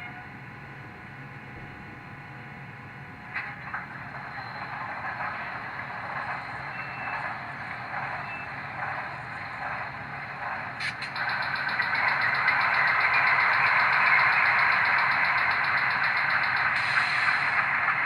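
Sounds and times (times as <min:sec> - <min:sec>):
model diesel locomotive sound: 0:00.0 - 0:18.0.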